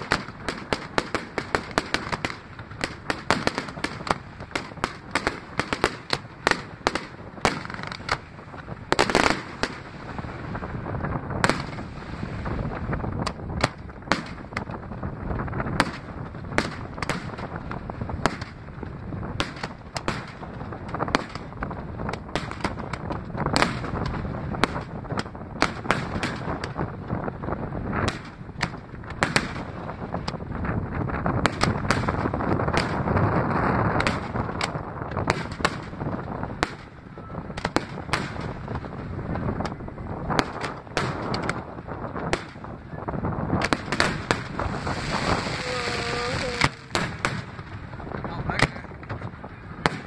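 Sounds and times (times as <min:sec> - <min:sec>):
fireworks crackling: 0:00.0 - 0:50.0.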